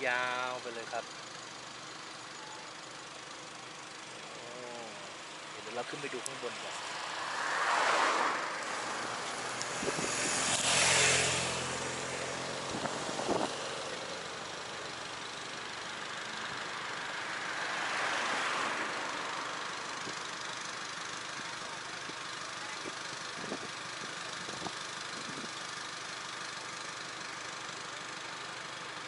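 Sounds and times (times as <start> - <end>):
car engine and tyre noise: 0.0 - 29.0
passing vehicles rushing by: 3.8 - 27.5.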